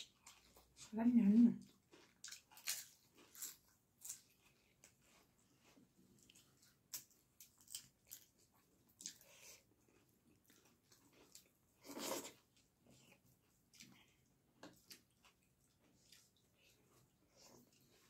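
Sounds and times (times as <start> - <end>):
mouth smacks and chewing: 1.6 - 5.3, 6.1 - 18.0.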